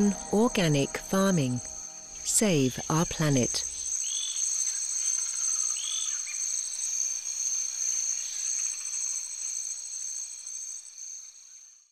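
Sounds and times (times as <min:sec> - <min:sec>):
crickets trilling: 0:00.0 - 0:11.9.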